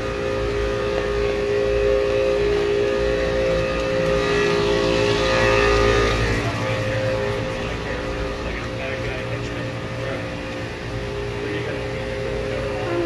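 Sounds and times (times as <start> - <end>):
air conditioner compressor and fan hum: 0.0 - 13.0.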